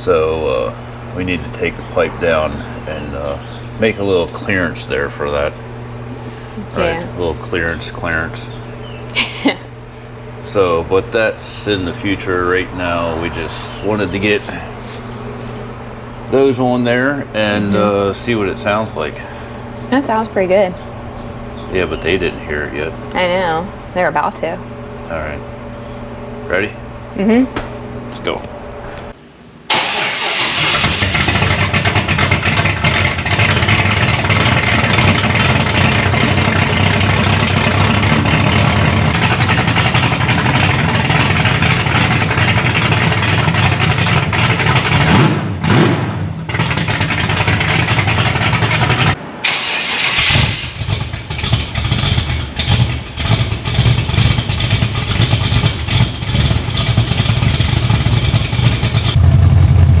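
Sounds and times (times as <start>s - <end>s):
louder deeper engine note: 0.0s - 29.1s, 29.8s - 49.5s, 50.2s - 60.0s
car engine deep exhaust note: 0.0s - 29.2s, 31.0s - 49.2s, 50.2s - 60.0s.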